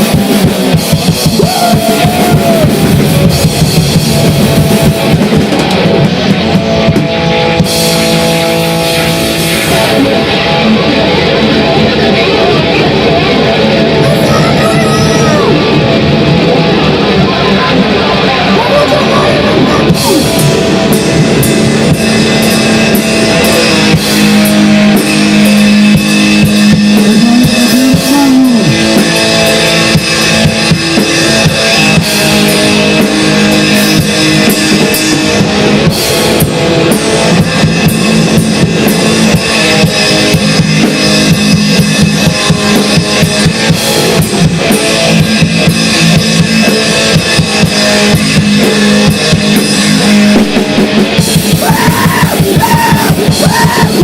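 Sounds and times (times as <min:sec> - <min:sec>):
distorted electric guitar: 0:00.0 - 0:54.0
fast dense drumming: 0:00.0 - 0:54.0.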